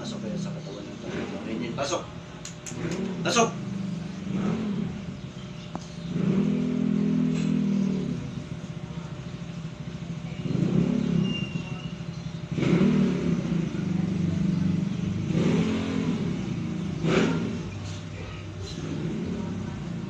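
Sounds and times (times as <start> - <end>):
engine revving: 0.0 - 8.8, 9.4 - 20.0.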